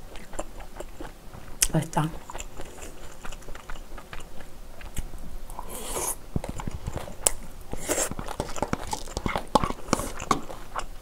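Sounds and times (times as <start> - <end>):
chewing and mouth sounds: 0.0 - 11.0.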